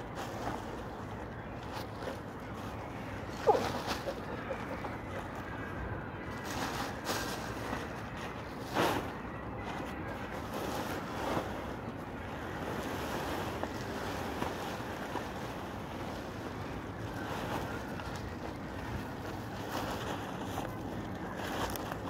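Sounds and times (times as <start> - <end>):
plastic bag rustling: 0.0 - 22.0.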